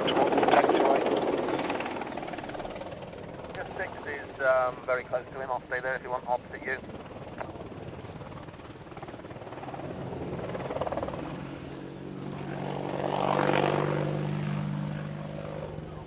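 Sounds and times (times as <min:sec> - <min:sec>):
helicopter flying by: 0:00.0 - 0:16.0.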